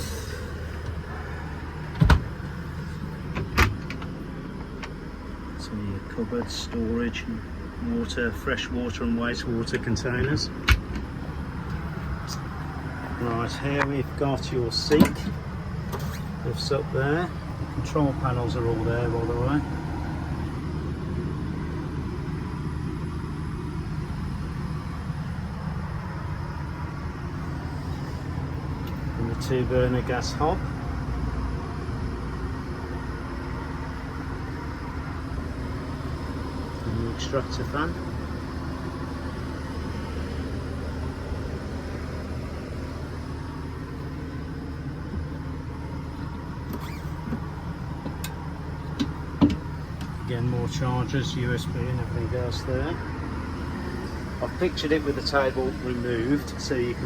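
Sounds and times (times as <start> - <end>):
low mechanical drone with hiss: 0.0 - 57.0.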